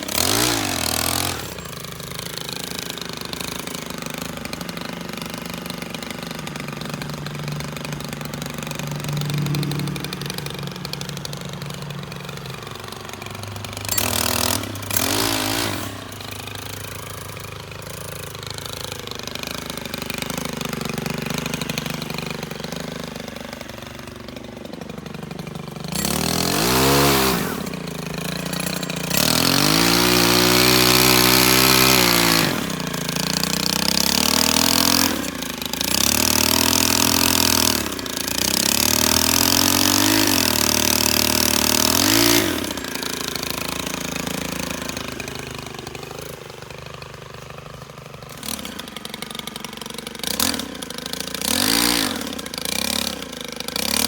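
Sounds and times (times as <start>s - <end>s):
small engine revving and idling: 0.0s - 54.0s.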